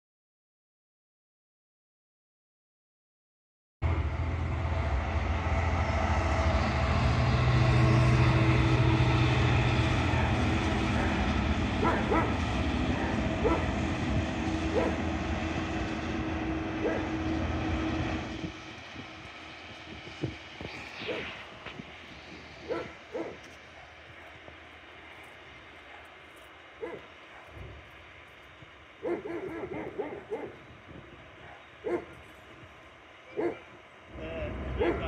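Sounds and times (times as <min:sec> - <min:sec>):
diesel locomotive engine: 0:03.8 - 0:35.0
train wheels rumbling on track: 0:03.8 - 0:35.0.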